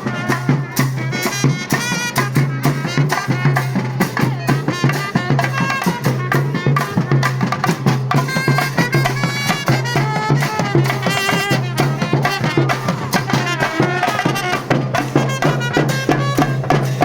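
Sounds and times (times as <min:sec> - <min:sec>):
piping melody: 0:00.0 - 0:17.0
rapid drumming: 0:00.0 - 0:17.0.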